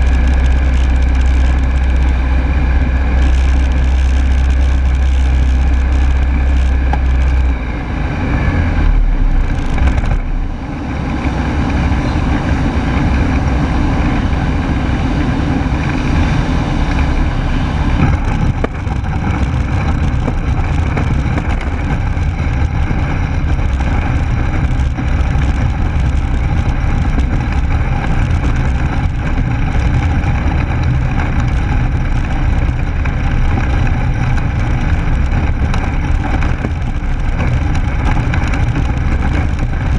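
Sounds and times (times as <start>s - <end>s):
light aircraft engine: 0.0s - 39.9s
rush of airflow: 7.1s - 39.9s.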